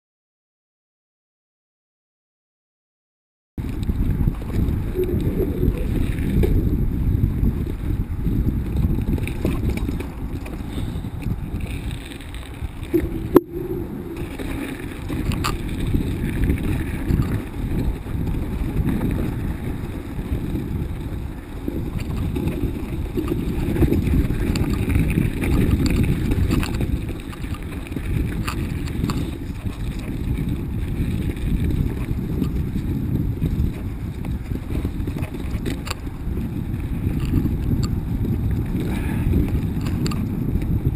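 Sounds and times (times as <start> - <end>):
bike frame rattling: 3.6 - 40.9
bike tyres on dirt trail: 3.6 - 40.9
wind rumble on microphone: 3.6 - 40.9.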